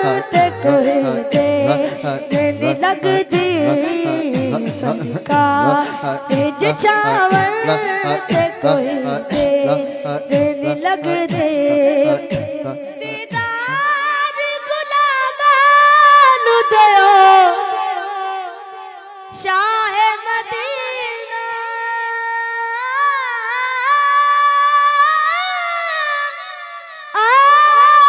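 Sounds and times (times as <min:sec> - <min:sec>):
boy singing into microphone: 0:00.0 - 0:28.0.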